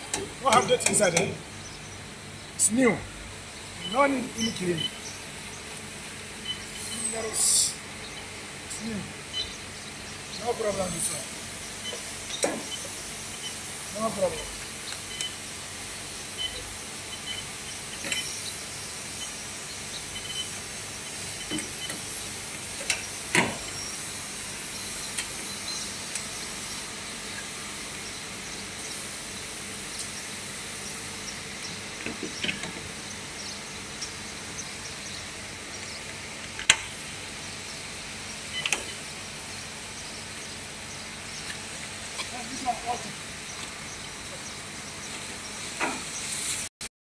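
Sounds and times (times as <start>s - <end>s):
steady hiss: 0.0s - 46.7s.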